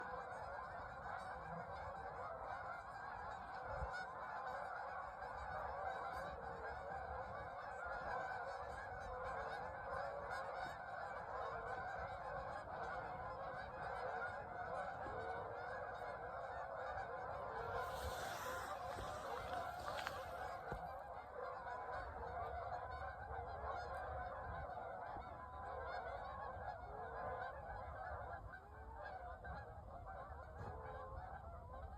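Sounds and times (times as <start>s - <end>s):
flock of geese honking: 0.0s - 31.9s.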